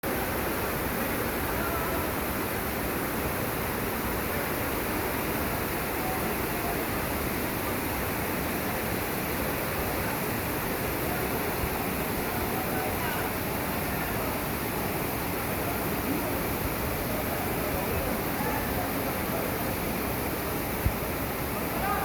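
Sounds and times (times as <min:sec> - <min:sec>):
waterfall rushing: 0:00.1 - 0:22.0.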